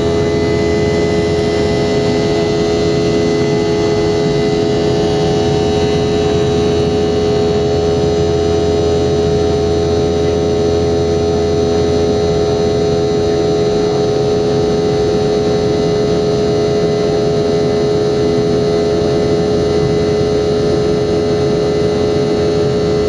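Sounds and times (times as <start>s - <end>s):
jet engines droning: 0.0s - 23.0s.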